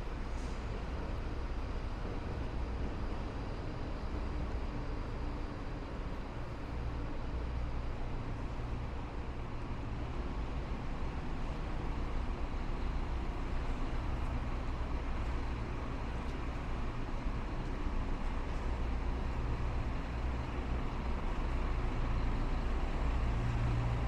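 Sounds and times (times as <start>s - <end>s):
road noise: 0.0s - 24.0s
traffic engine rumble: 0.0s - 24.0s.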